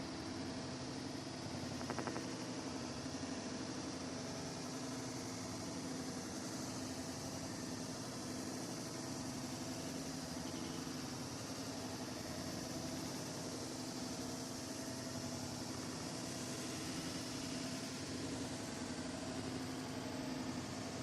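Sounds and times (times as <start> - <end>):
mechanical hum with hiss: 0.0 - 21.0.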